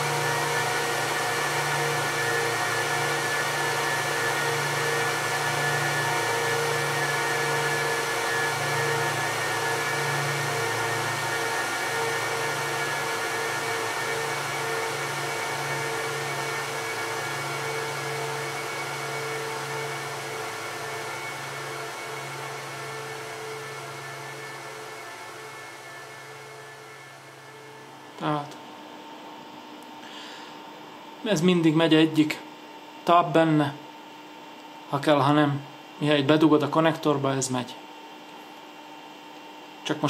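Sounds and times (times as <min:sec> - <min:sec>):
server cooling fans whirring: 0:00.0 - 0:40.0.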